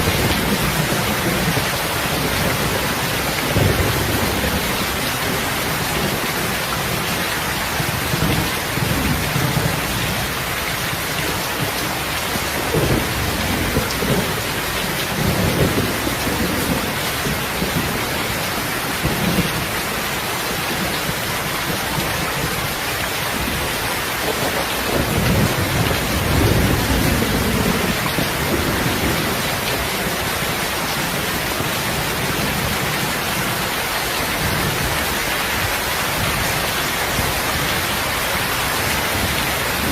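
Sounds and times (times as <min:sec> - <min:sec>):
heavy rain hissing: 0:00.0 - 0:39.9
thunder rumbling: 0:00.0 - 0:39.9.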